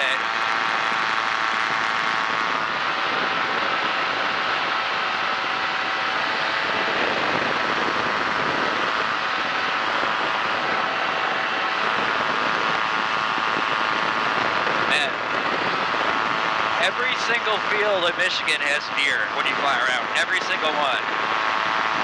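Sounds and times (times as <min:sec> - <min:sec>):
aircraft engine and propeller drone: 0:00.0 - 0:22.0
rushing air: 0:02.4 - 0:22.0.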